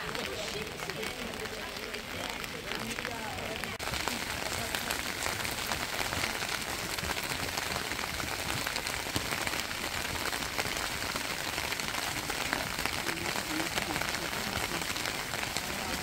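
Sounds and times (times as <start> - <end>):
raindrop ticks: 0.0 - 16.0
steady rain falling: 0.0 - 16.0.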